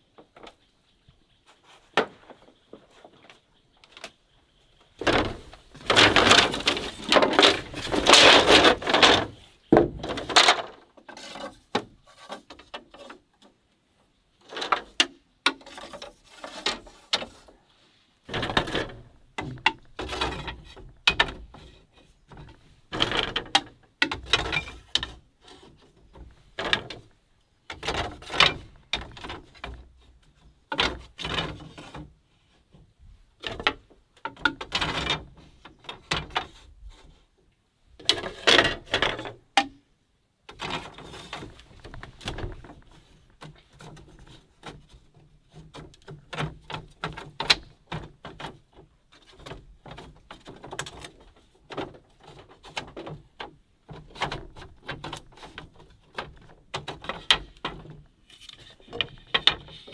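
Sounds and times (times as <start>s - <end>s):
bamboo slats clattering: 0.0s - 0.7s, 1.4s - 17.6s, 18.2s - 37.3s, 38.0s - 59.9s.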